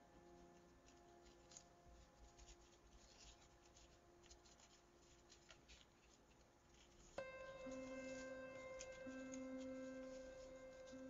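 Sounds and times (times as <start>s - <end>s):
paper being folded and creased: 0.8s - 11.0s.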